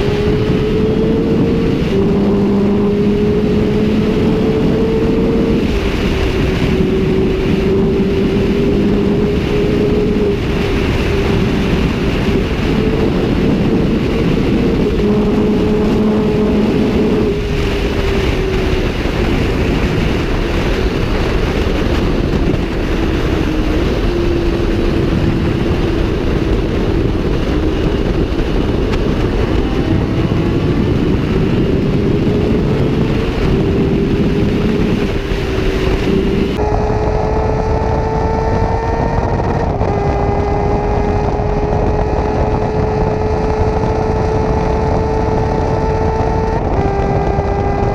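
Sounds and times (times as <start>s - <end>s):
motorcycle engine at speed: 0.0s - 47.9s
wind rush: 0.0s - 47.9s.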